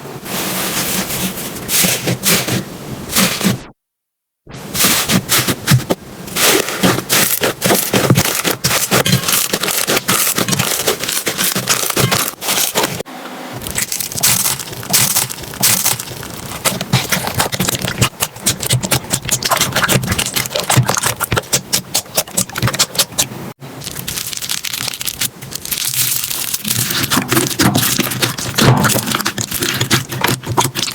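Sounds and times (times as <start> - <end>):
slime crackling and popping: 4.8 - 13.0, 13.6 - 30.9.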